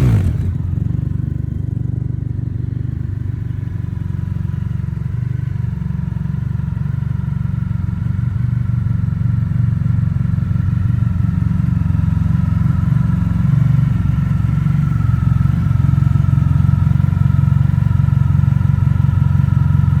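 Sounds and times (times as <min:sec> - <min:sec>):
motorcycle engine deep exhaust note: 0:00.0 - 0:20.0.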